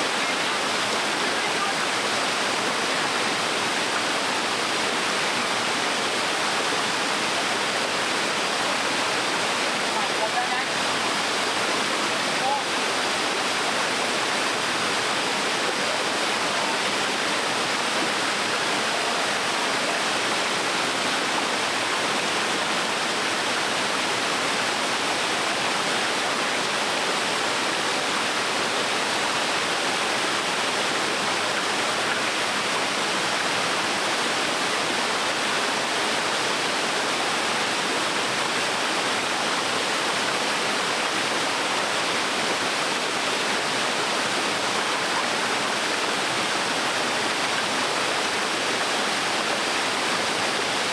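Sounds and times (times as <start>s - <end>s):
small waterfall splashing: 0.0s - 50.9s.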